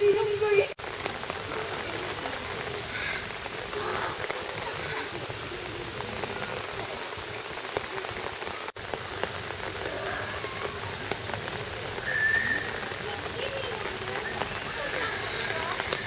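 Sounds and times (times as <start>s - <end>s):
raindrops ticking: 0.0s - 16.0s
steady rain falling: 0.0s - 16.0s.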